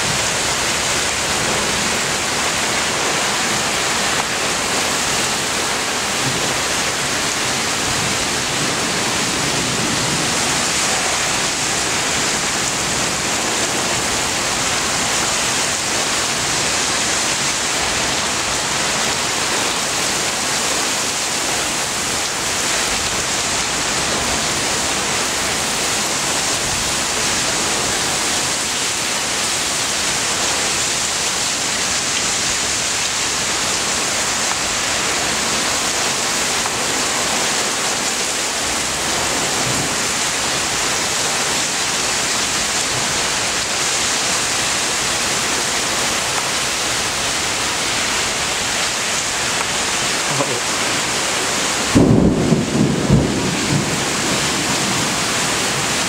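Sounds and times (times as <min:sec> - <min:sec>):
torrential rain pouring: 0:00.0 - 0:56.0.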